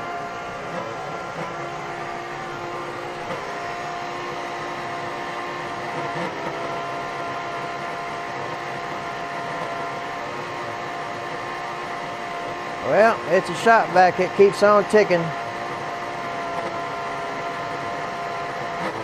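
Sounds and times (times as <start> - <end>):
shop vacuum motor whining: 0.0 - 19.0.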